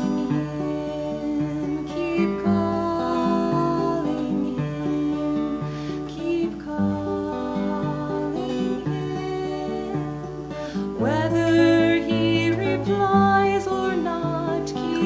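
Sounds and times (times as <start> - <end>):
acoustic guitar slow chords: 0.0 - 15.0.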